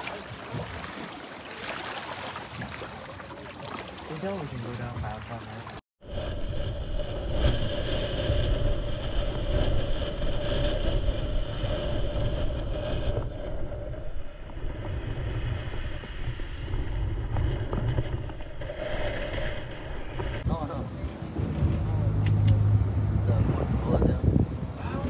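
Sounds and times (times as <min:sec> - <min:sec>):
wind rumbling on microphone: 0:04.5 - 0:25.0.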